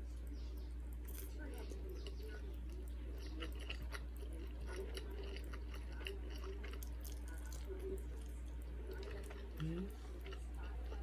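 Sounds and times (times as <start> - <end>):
steady low hum: 0.0 - 11.0
person chewing noodles: 0.9 - 11.0.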